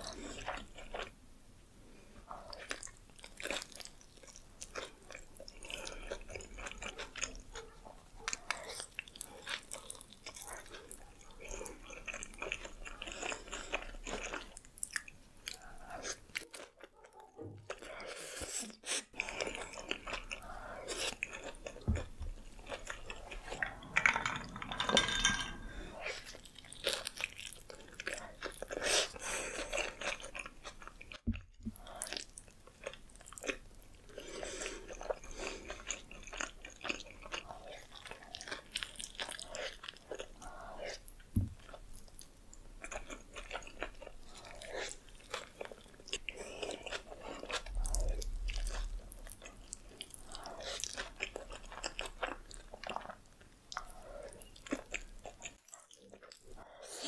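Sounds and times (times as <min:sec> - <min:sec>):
biting and chewing food: 0:02.2 - 0:18.1, 0:19.1 - 0:57.0.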